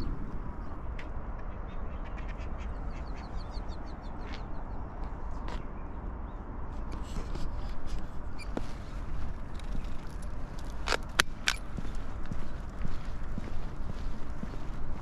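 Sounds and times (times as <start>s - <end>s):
steady low rumble: 0.0s - 3.8s, 6.2s - 15.0s.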